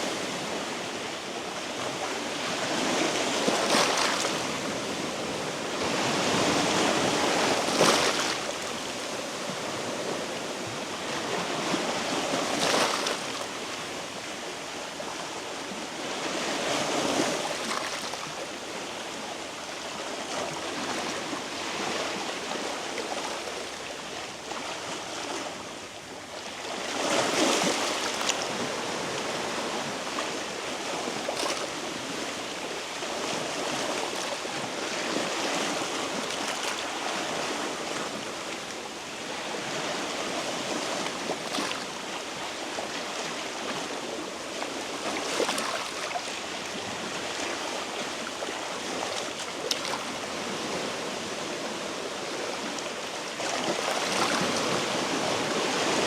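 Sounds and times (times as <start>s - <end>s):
sea waves on rocky shore: 0.0s - 56.0s.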